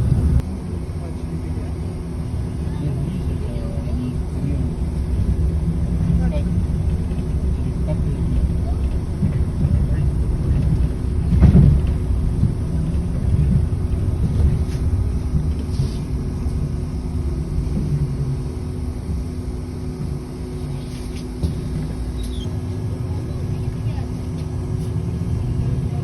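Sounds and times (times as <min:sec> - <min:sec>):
bus engine and road rumble: 0:00.0 - 0:26.0
faint steady hum: 0:00.0 - 0:26.0.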